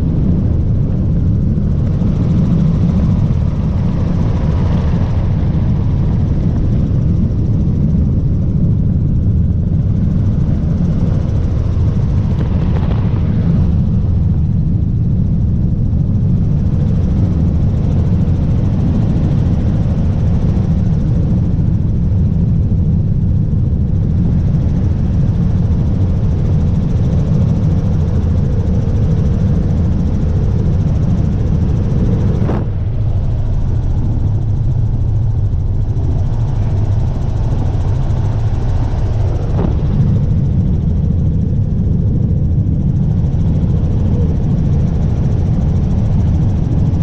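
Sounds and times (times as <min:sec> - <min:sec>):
helicopter engine and rotor: 0:00.0 - 0:47.0.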